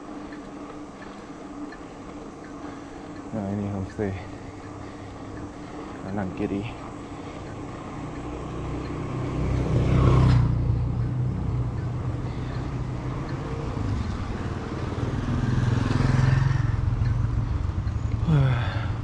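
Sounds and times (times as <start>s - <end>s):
vehicles passing on road: 0.0s - 19.0s.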